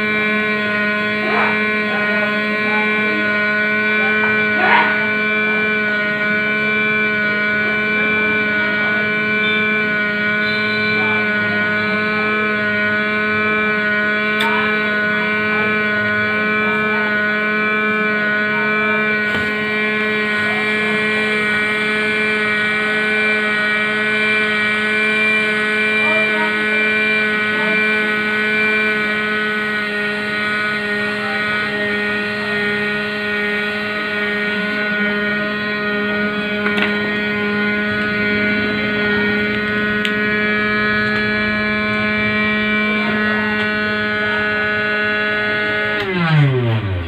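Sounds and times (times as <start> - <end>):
hot air rework station blowing: 0.0 - 47.0.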